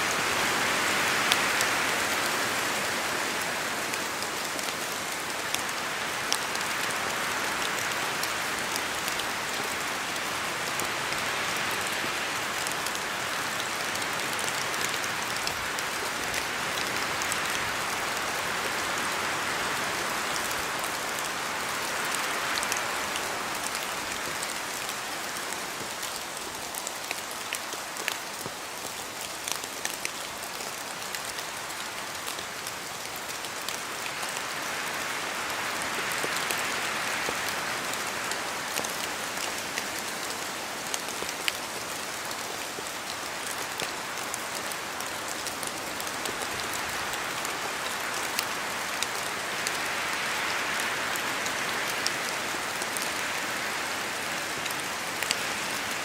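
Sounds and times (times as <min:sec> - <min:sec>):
steady rain falling: 0:00.0 - 0:56.0
wind through trees: 0:00.0 - 0:56.0.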